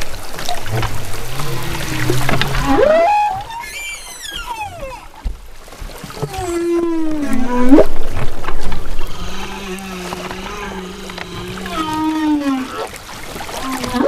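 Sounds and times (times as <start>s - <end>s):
humpback whale song: 0.0s - 5.3s, 6.1s - 14.0s.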